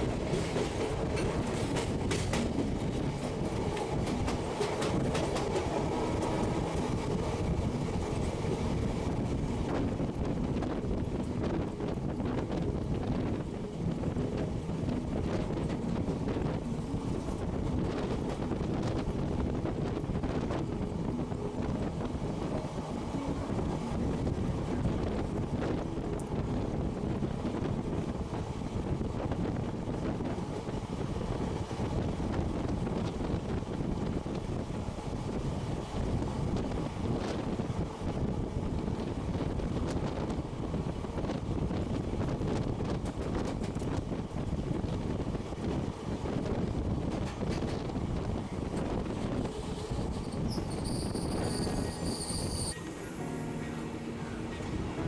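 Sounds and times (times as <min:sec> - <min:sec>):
wind buffeting microphone: 0:00.0 - 0:53.2
train wheels clicking on track: 0:00.0 - 0:53.3
passenger train running: 0:00.0 - 0:55.0.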